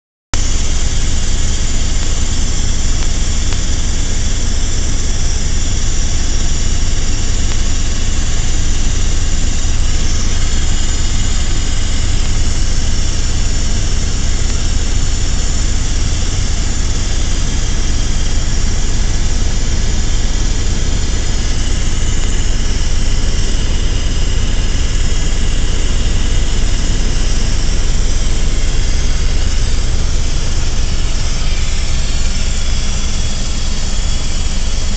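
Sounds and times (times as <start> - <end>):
helicopter running: 0.4 - 34.9.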